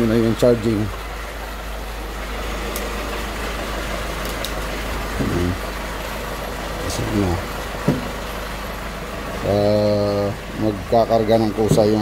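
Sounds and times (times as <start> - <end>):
petrol engine idling: 0.0 - 12.0.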